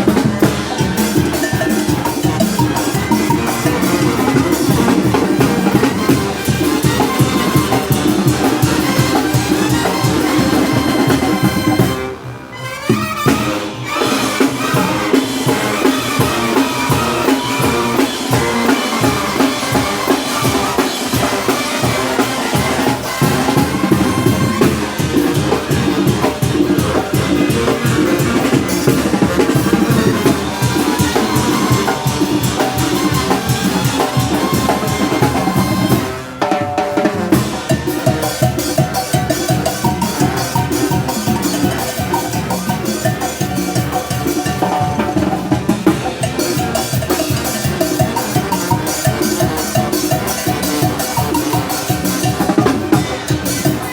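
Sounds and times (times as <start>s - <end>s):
brass band playing dance rhythm: 0.0s - 53.9s
snare drum: 0.0s - 53.9s.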